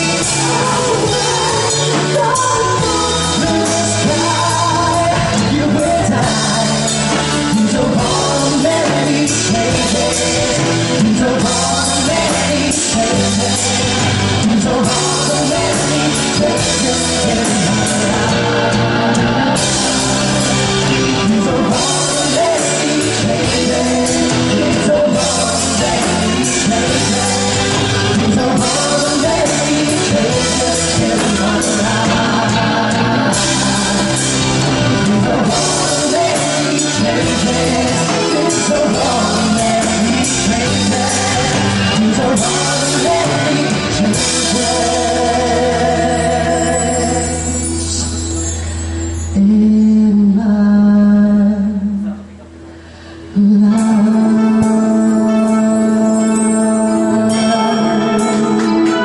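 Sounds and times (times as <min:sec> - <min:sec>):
band playing: 0:00.0 - 0:50.5, 0:53.3 - 0:59.0
person singing: 0:00.0 - 0:52.4, 0:53.1 - 0:59.0.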